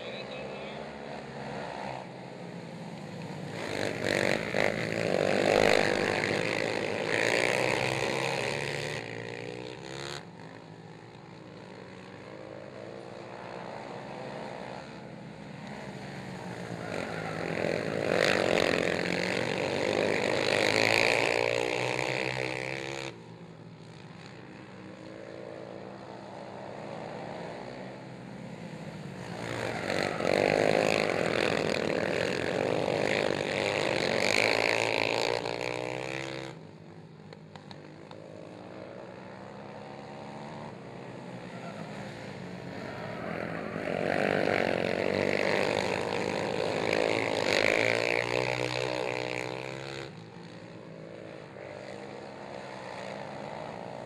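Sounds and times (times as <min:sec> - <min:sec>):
quad engines revving: 0:00.0 - 0:54.0.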